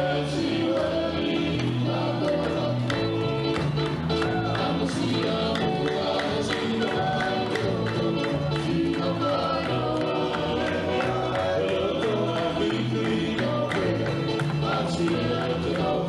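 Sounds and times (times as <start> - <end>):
group singing in harmony: 0.0 - 3.6, 4.2 - 16.0
percussive beat: 0.0 - 16.0.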